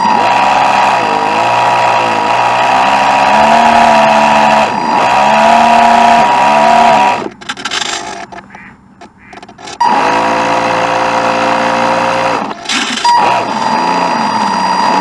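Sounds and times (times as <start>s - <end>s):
model boat motor whining: 0.0s - 7.4s, 9.3s - 15.0s
motor sputters: 0.0s - 15.0s.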